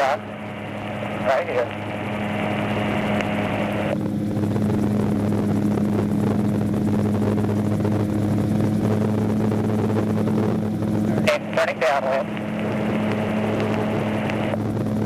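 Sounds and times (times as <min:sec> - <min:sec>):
gyroplane engine and propeller drone: 0:00.0 - 0:15.0.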